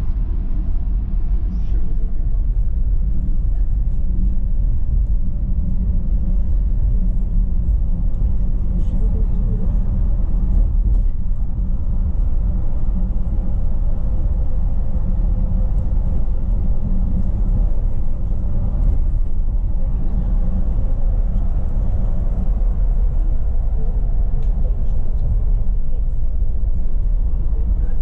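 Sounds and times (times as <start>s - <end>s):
bus rumble from inside: 0.0s - 28.0s.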